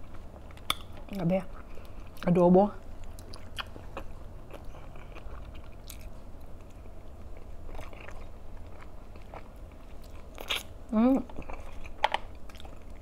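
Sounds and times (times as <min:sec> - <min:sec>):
person chewing food: 0:00.0 - 0:02.3, 0:02.9 - 0:13.0
steady low hum: 0:00.0 - 0:13.0.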